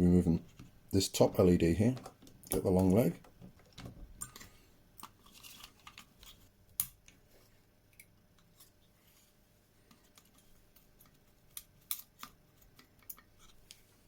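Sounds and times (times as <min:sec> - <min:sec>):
faint handling noise: 0:01.6 - 0:14.0.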